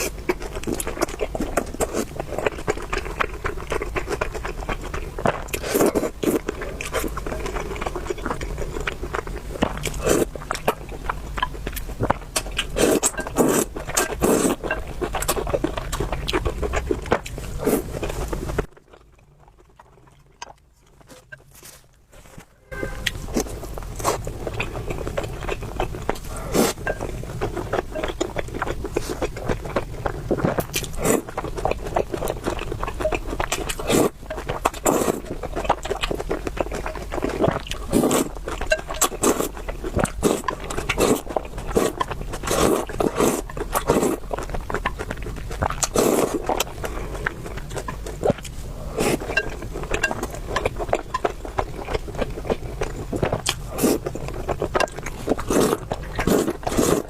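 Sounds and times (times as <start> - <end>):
chewing and mouth sounds: 0.0 - 22.0, 23.1 - 57.0.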